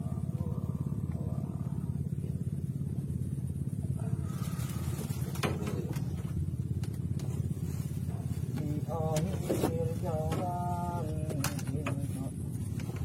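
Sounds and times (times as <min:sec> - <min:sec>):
boat engine throbbing: 0:00.0 - 0:13.0.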